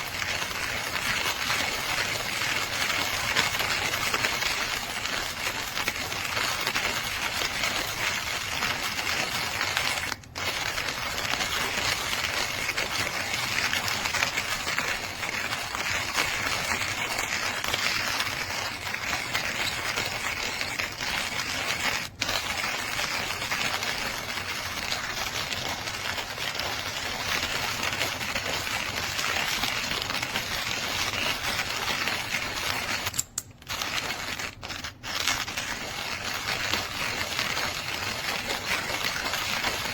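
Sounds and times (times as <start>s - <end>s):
hand coffee grinder crunching beans: 0.0s - 39.9s.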